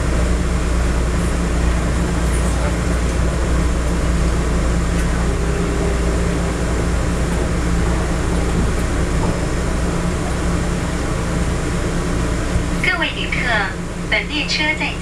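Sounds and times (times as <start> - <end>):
train cabin rumble and hum: 0.0 - 15.0.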